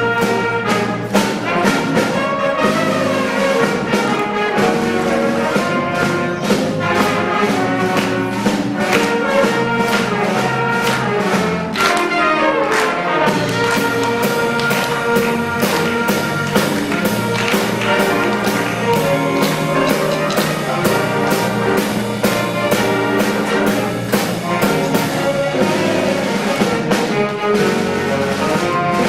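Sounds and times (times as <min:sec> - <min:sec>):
concert band playing: 0:00.0 - 0:29.0.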